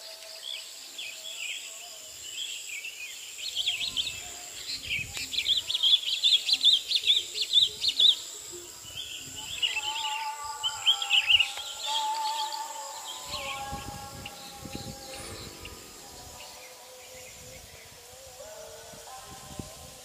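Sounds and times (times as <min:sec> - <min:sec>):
high insect whine: 0:00.0 - 0:20.0
small birds chirping: 0:00.0 - 0:20.0
background music: 0:03.7 - 0:20.0.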